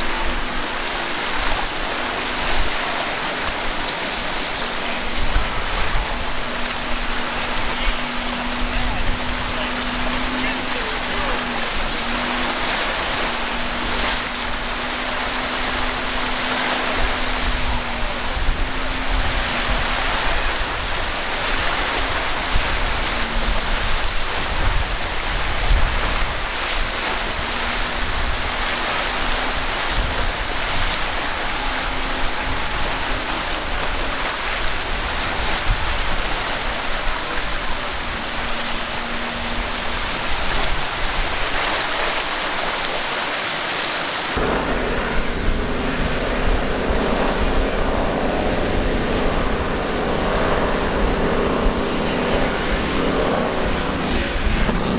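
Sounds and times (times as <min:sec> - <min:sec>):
faint boat outboard motor: 0:00.0 - 0:54.9
surf and waves washing: 0:00.0 - 0:54.9
wind buffeting microphone: 0:00.0 - 0:54.9.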